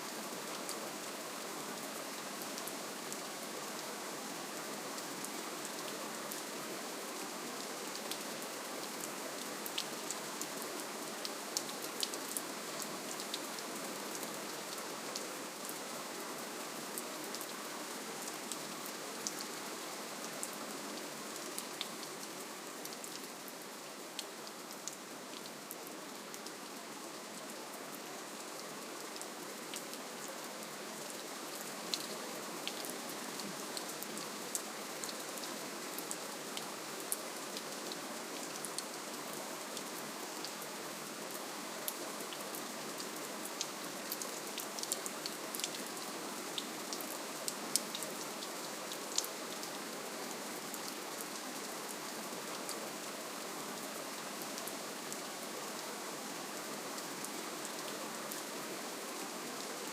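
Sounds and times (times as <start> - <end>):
soft rainfall: 0.0 - 59.9.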